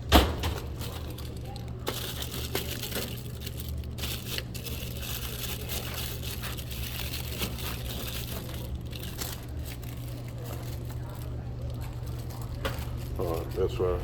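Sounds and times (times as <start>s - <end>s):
plastic packages crinkling: 0.0s - 14.0s.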